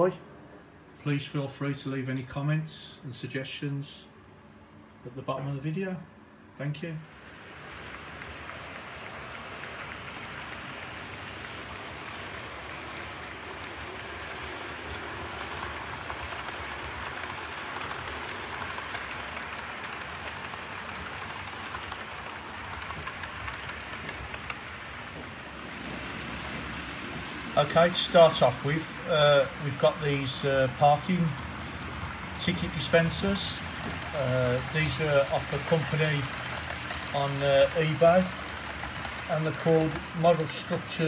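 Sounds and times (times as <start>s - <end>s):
model train wheels rattling on track: 7.2s - 41.0s.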